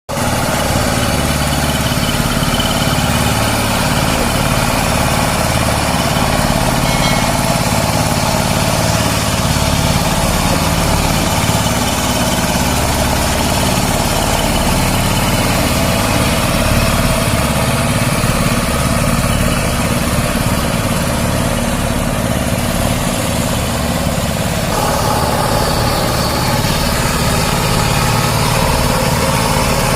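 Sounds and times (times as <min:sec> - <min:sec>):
diesel engine running: 0:00.1 - 0:29.9.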